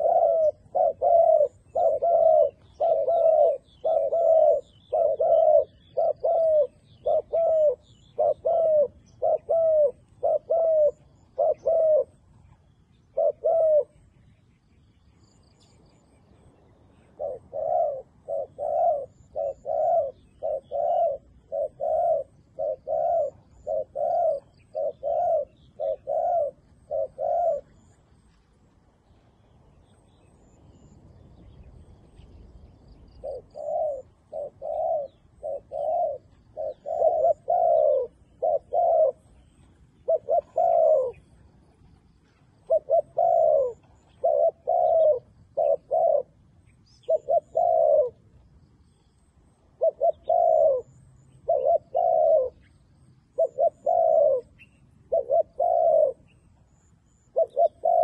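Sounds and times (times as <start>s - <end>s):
dove cooing: 0.0s - 14.2s, 15.3s - 28.5s, 29.7s - 58.0s
small birds chirping: 0.0s - 58.0s.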